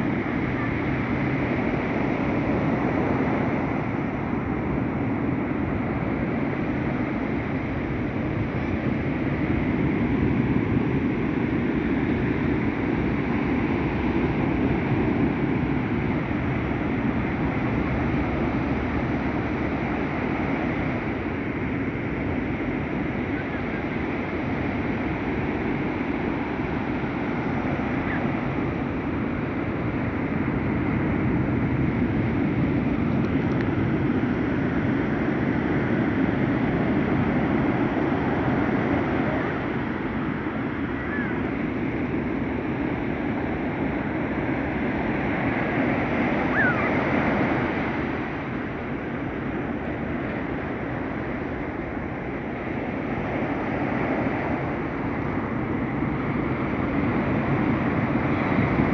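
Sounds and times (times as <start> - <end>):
sea surf: 0.0 - 58.9
waves rushing: 0.0 - 58.9
wind buffeting microphone: 0.0 - 58.9.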